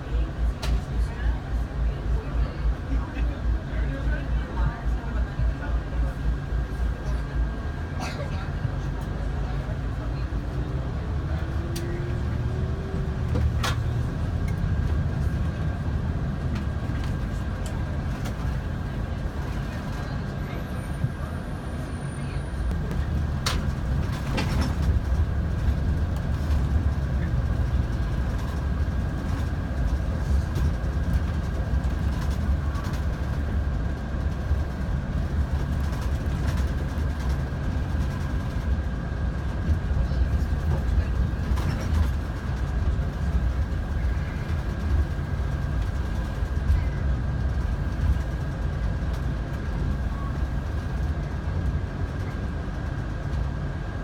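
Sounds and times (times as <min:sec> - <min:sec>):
vehicle road rumble: 0:00.0 - 0:54.0.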